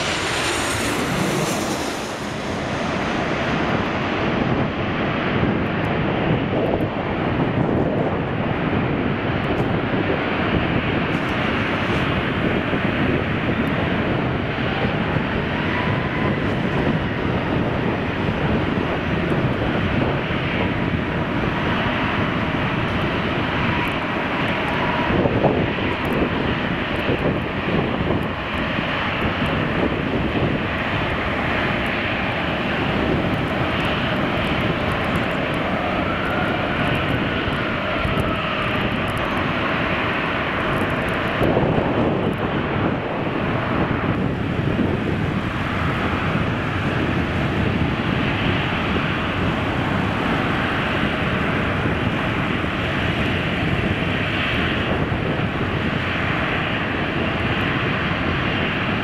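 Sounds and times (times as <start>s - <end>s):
faint turbine whine: 0.0s - 59.0s
jet engines roaring: 0.0s - 59.0s.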